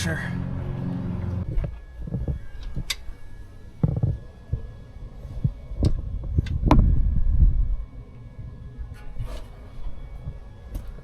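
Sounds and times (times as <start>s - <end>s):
low rumbling handling noise: 0.0s - 11.0s.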